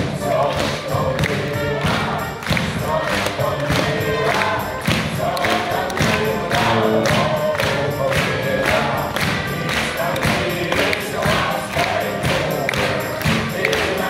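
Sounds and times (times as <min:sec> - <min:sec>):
band playing tuba guitars drums: 0:00.0 - 0:14.0
voices singing together: 0:00.0 - 0:14.0.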